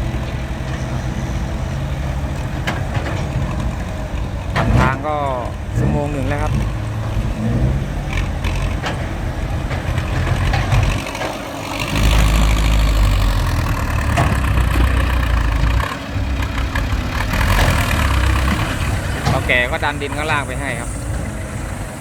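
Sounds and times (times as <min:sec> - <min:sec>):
heavy diesel engine rumbling: 0:00.0 - 0:22.0.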